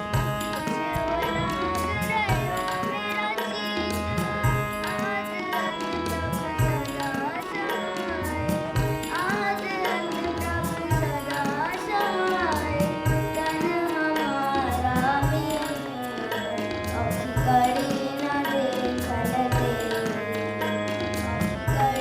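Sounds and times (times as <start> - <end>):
person singing a hymn: 0.0 - 22.0
tabla strokes: 0.0 - 22.0.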